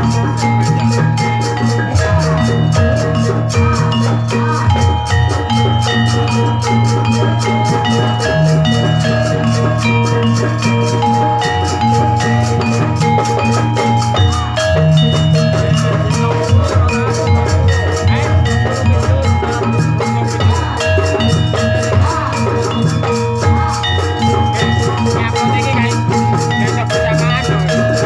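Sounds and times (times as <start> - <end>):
metallophones and gongs ringing: 0.0 - 28.0
steady drumming: 0.0 - 28.0.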